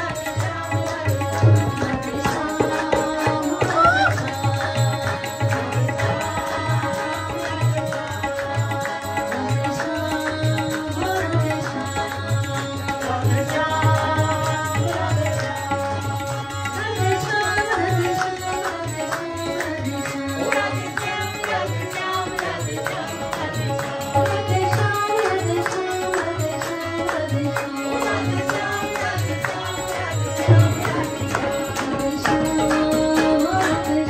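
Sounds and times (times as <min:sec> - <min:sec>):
devotional singing: 0:00.0 - 0:34.0
harmonium: 0:00.0 - 0:34.0
steady percussion beat: 0:00.0 - 0:34.0.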